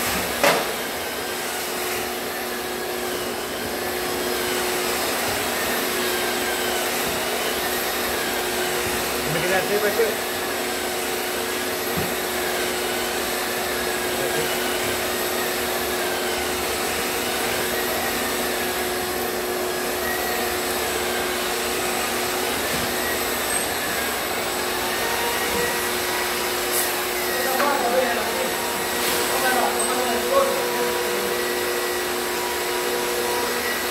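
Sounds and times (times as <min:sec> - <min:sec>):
pole sander sanding ceiling: 0:00.0 - 0:33.9
shop vacuum running: 0:00.0 - 0:33.9.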